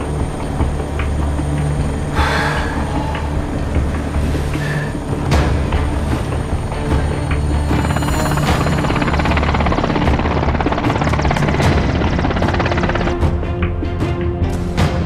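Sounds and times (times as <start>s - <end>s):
background music score: 0.0s - 15.0s
helicopter rotor chop: 0.0s - 15.0s.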